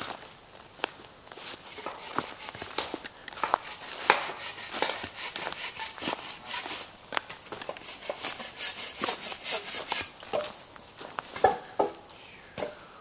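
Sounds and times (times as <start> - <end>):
footsteps crunching dry leaves: 0.0 - 11.5.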